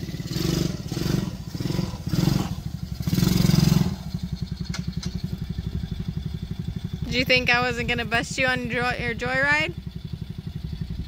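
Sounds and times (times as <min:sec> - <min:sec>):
small gas engine puttering: 0:00.0 - 0:11.0.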